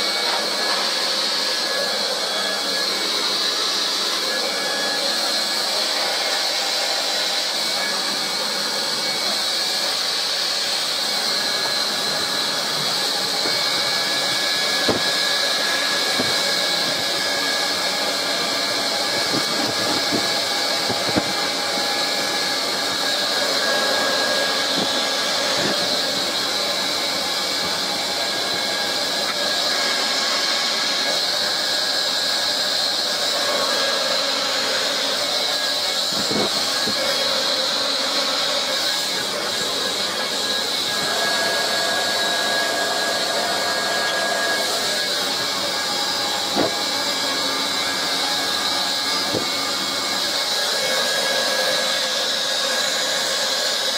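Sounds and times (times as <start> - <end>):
plastic welder blowing hiss: 0.0 - 53.9.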